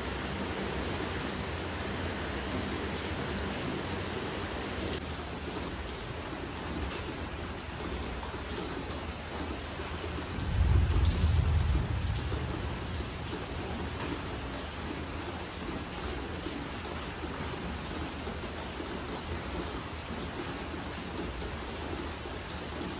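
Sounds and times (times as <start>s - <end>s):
rain pattering on hard surfaces: 0.0s - 22.9s.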